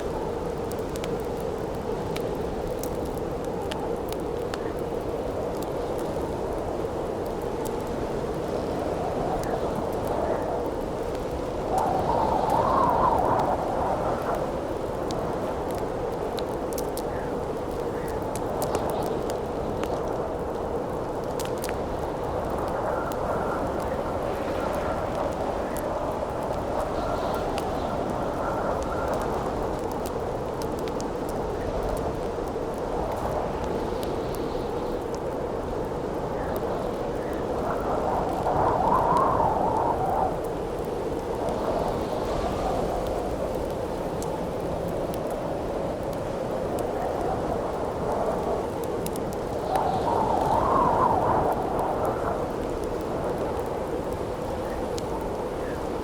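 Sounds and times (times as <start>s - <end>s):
campfire crackling and popping: 0.0s - 56.0s
steady wind: 0.0s - 56.0s.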